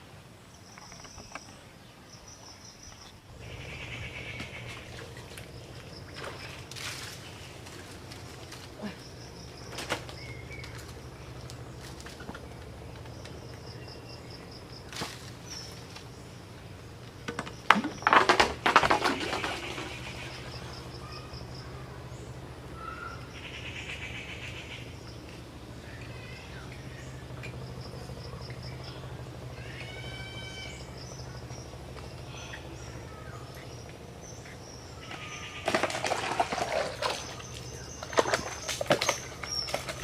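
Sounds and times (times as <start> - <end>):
steady low hum: 0.0 - 40.0
insects trilling: 0.5 - 40.0.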